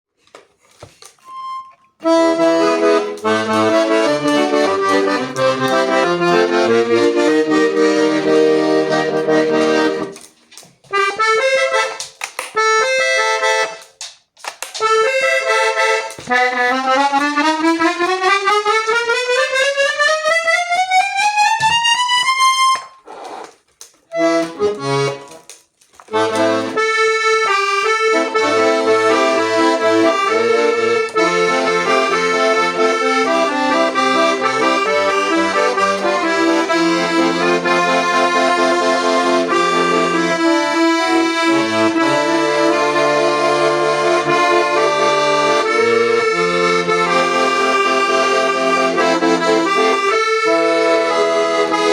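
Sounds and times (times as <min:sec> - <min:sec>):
accordion playing: 0:00.6 - 0:14.1, 0:14.7 - 0:51.9.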